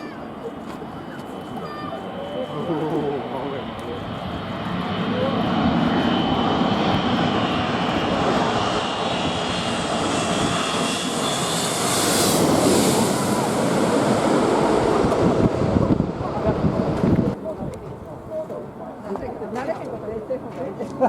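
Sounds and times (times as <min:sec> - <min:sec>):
airliner engines passing: 0:00.0 - 0:21.0.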